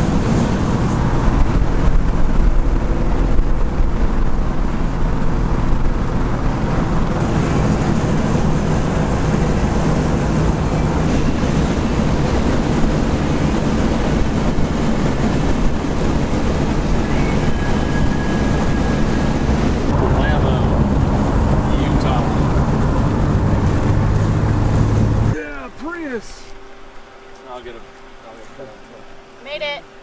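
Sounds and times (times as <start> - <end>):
car engine drone: 0.0 - 30.0
road and wind noise: 0.0 - 30.0.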